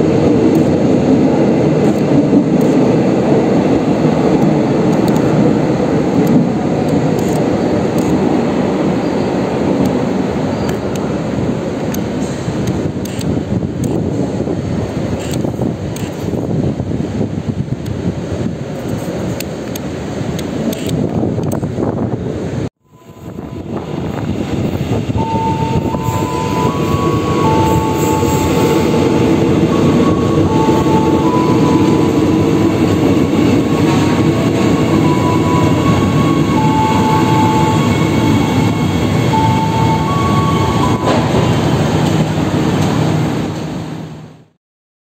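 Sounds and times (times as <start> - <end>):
electric train rumble: 0.0 - 44.6.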